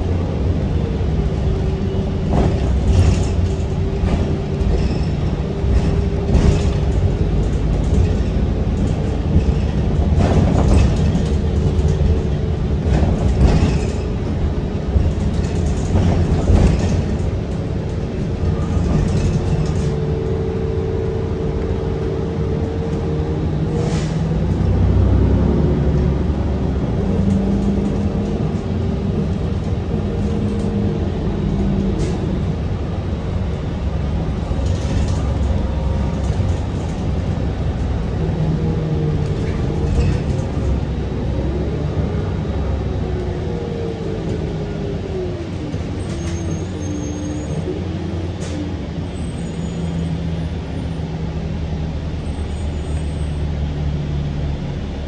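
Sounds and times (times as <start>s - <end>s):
bus body rattles and clunks: 0.0s - 55.0s
bus engine rumble: 0.0s - 55.0s.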